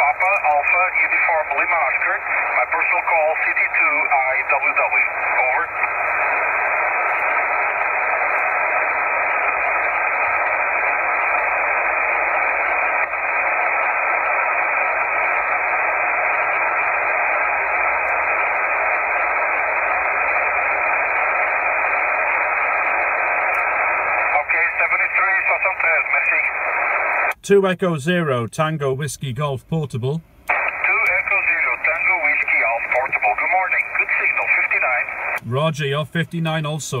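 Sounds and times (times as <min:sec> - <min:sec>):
radio static hiss: 0:00.0 - 0:27.6, 0:29.2 - 0:37.0.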